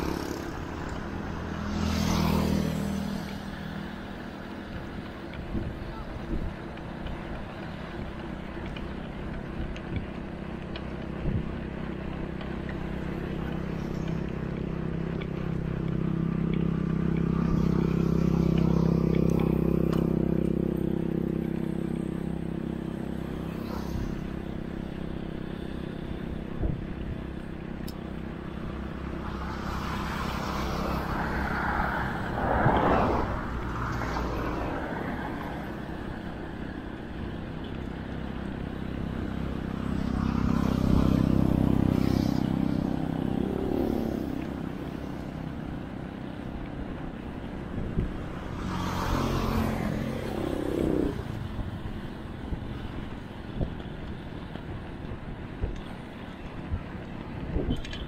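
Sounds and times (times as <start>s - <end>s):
road noise: 0.0s - 58.0s
vehicle engine running: 0.0s - 58.0s.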